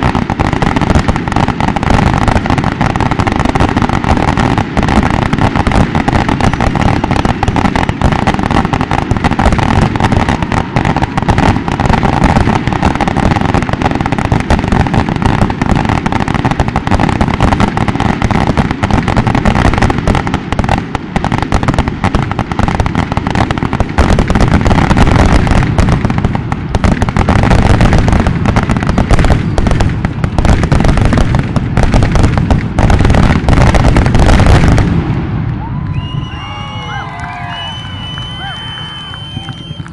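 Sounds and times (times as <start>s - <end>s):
firework shells bursting and crackling: 0.0s - 39.9s.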